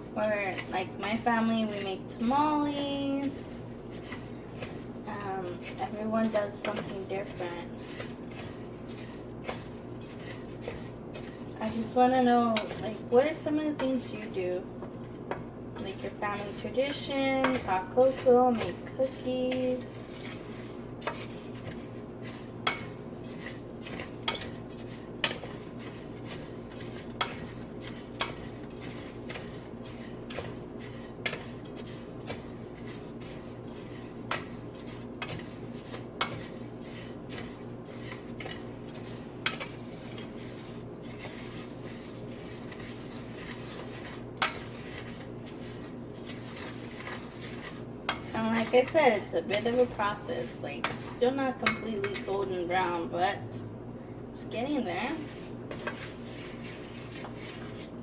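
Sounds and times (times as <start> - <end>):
utensil scraping a pan: 0.0 - 53.4, 54.4 - 58.0
steady low hum: 0.0 - 58.0.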